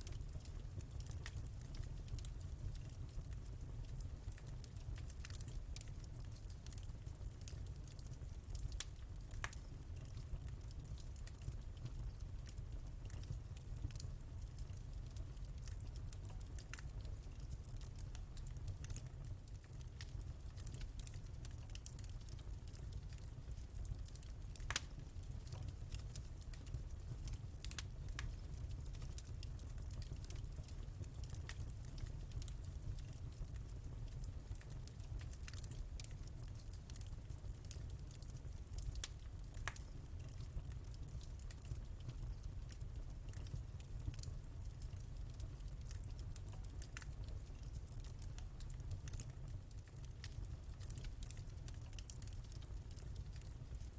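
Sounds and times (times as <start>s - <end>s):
low fire rumble: 0.0s - 53.9s
wood fire crackling: 0.0s - 53.9s.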